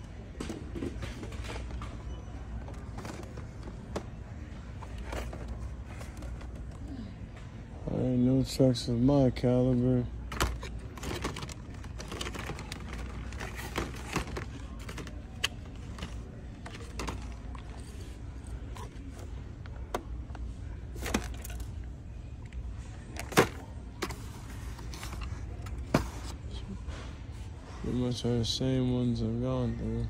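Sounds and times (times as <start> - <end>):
low store hum: 0.0 - 30.0.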